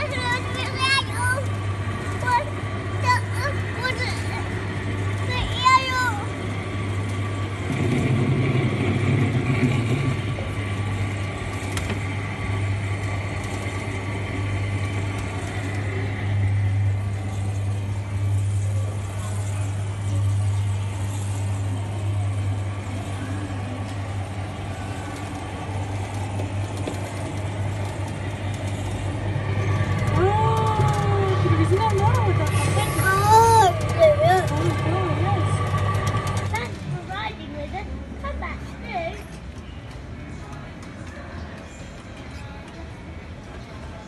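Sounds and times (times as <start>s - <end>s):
kiddie ride humming: 0.0s - 38.3s.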